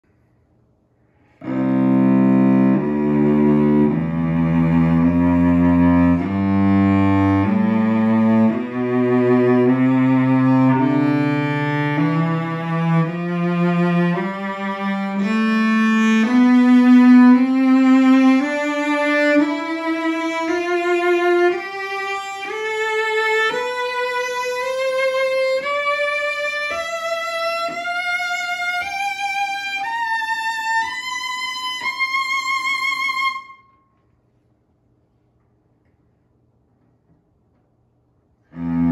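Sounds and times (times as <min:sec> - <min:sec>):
cello bowed in a rising scale: 0:01.4 - 0:33.6, 0:38.4 - 0:38.9.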